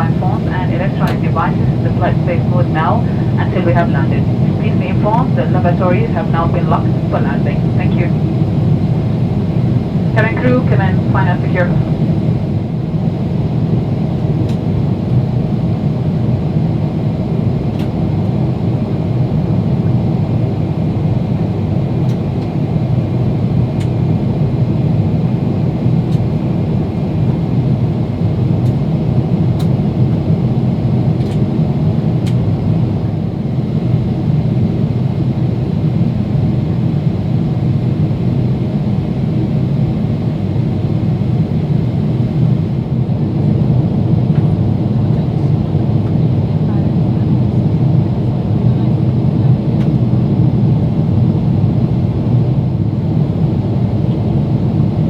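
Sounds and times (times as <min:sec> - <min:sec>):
airflow and jet engine rumble: 0:00.0 - 0:55.0.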